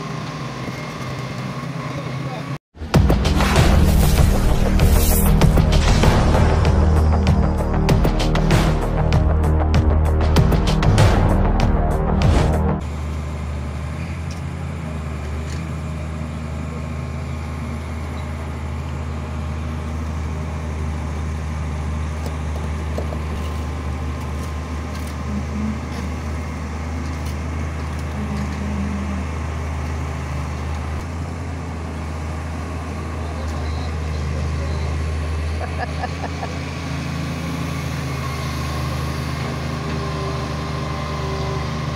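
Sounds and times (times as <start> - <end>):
excavator diesel engine humming: 0.0 - 41.9.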